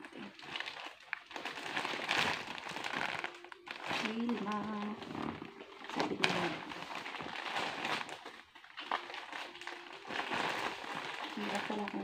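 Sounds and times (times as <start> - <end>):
plastic mailer bag crinkling: 0.0 - 12.0.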